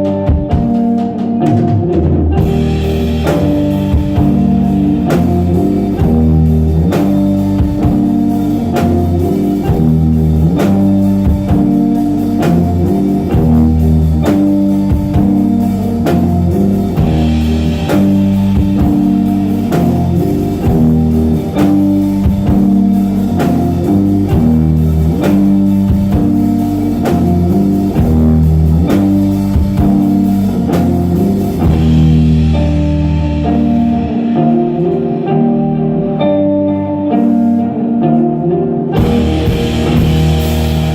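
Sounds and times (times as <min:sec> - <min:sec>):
drum kit hits: 0:00.0 - 0:33.8, 0:39.0 - 0:40.9
electric guitar figure: 0:00.0 - 0:40.9.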